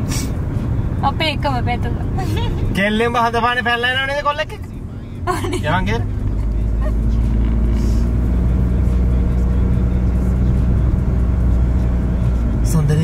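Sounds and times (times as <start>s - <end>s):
motor vehicle low drone: 0.0s - 13.0s.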